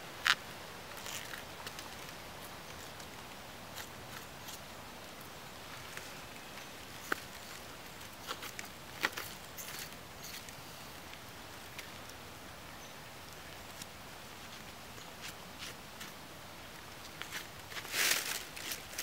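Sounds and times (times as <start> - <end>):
dry leaves crackling and rustling: 0.0 - 12.2, 13.2 - 19.0
steady outdoor hiss: 0.0 - 19.0.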